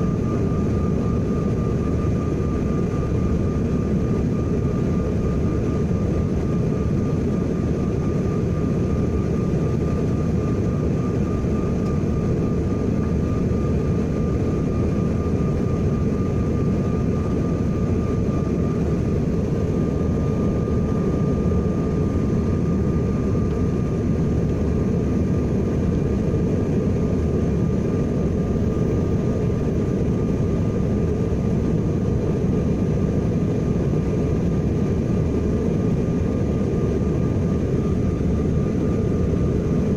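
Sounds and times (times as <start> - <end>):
faint steady whine: 0.0 - 39.9
jet cabin engine and airflow rush: 0.0 - 39.9.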